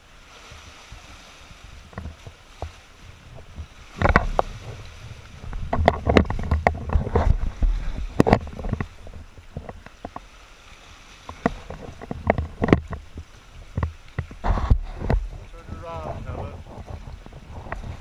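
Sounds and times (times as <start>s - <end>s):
low water rumble: 0.0s - 18.0s
seawater surging and splashing: 0.0s - 18.0s
person climbing out of water: 0.4s - 18.0s.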